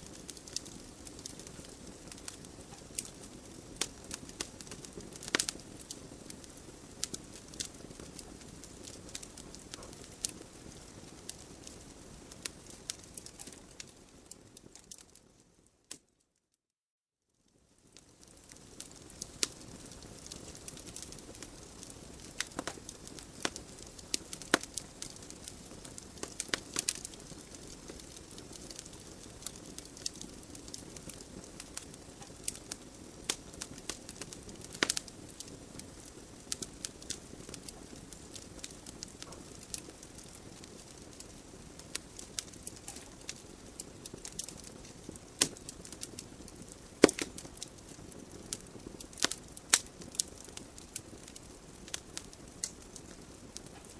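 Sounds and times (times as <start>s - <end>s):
fire hissing: 0.0s - 13.8s, 18.3s - 53.9s
wood crackling and popping: 0.0s - 16.1s, 17.8s - 53.9s.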